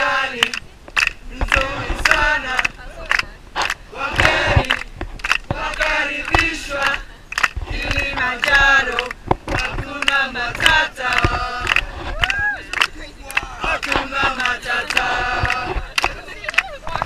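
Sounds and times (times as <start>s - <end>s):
group of people singing: 0.0s - 12.9s, 13.6s - 17.0s
hand claps: 0.4s - 17.0s.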